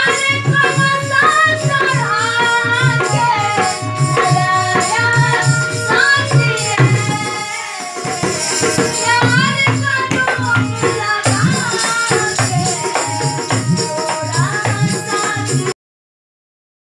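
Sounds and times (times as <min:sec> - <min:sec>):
harmonium: 0:00.0 - 0:15.8
woman singing: 0:00.0 - 0:15.8
low percussion beat: 0:00.3 - 0:15.7.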